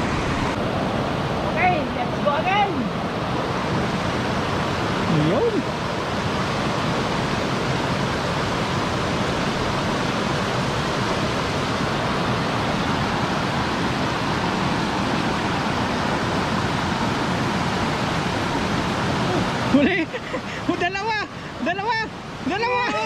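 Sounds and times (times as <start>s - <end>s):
water rushing over spillway: 0.0s - 23.0s.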